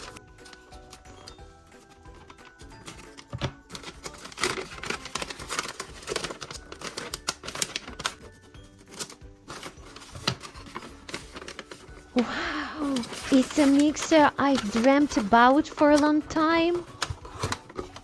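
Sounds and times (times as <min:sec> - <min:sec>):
packaging clicking and rustling: 0:00.0 - 0:12.2, 0:12.8 - 0:18.0
soft background music: 0:00.0 - 0:18.0.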